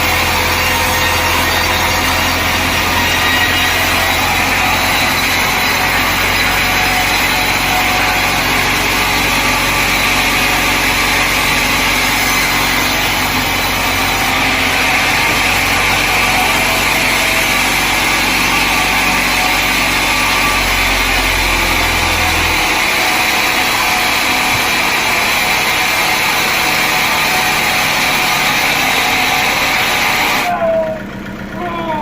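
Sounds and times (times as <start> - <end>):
low hum: 0.0 - 31.5
sawmill saw running: 0.0 - 32.0.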